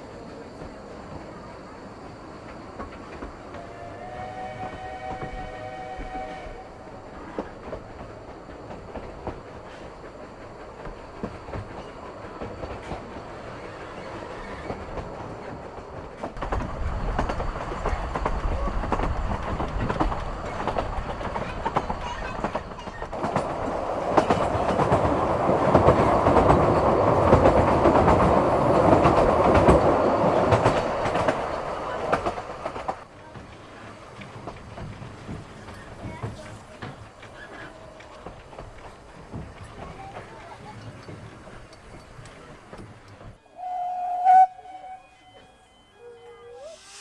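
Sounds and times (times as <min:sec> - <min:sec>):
steam train wheels clattering: 0:00.0 - 0:44.5.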